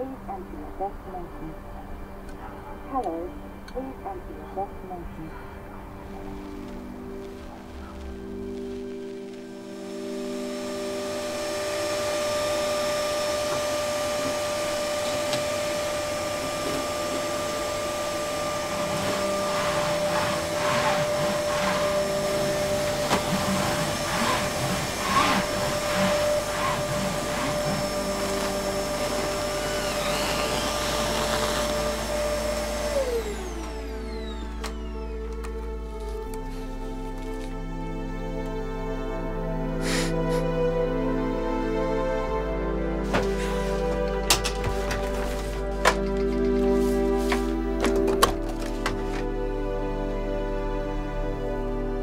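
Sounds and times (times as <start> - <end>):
vacuum cleaner running: 5.5 - 52.0.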